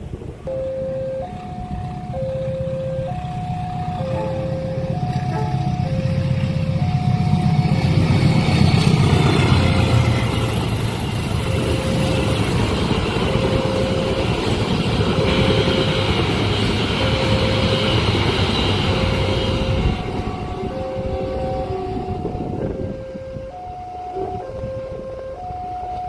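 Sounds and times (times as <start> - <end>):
crossing warning signal tone: 0.0 - 26.0
train rumbling past: 0.0 - 26.0
wheels squealing: 0.5 - 22.9.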